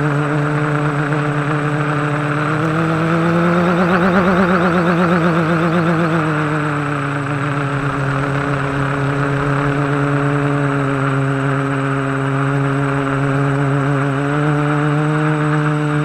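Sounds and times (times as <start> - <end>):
quadcopter motors humming: 0.0 - 16.0.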